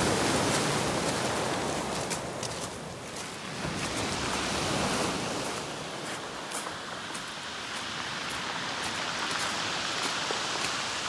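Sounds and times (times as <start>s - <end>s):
surf washing up pebble beach: 0.0s - 11.0s.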